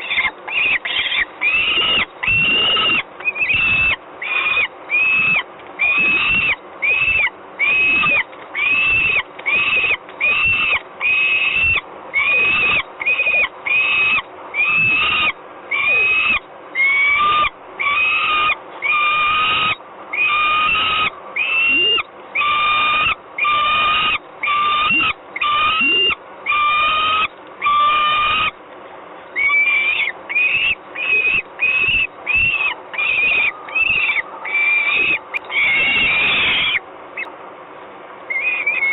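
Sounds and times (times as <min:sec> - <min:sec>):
falcon harsh calls: 0:00.0 - 0:28.6, 0:29.4 - 0:37.3, 0:38.3 - 0:38.9.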